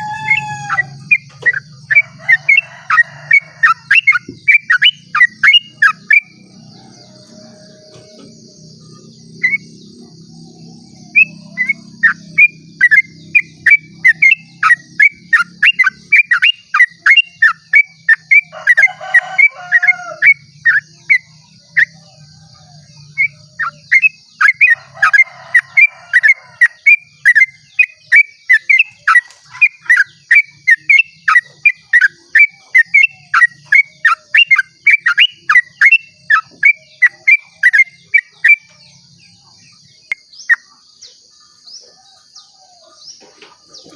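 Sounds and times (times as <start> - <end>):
bird singing rapid sharp notes: 0.0 - 22.0, 23.0 - 41.8.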